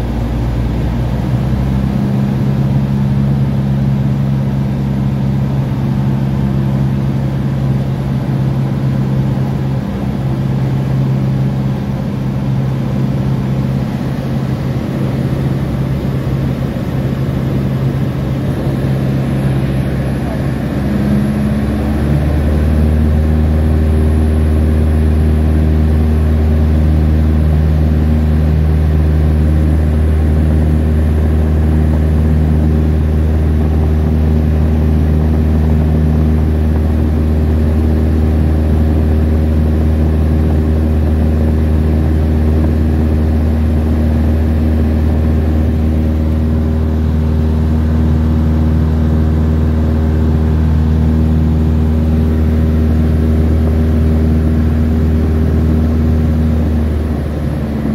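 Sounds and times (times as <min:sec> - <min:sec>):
light aircraft engine droning: 0:00.0 - 0:57.9.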